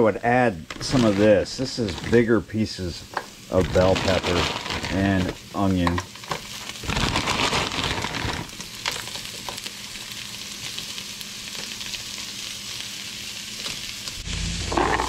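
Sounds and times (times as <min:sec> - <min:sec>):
vegetables sizzling in frying pan: 0:00.6 - 0:15.0.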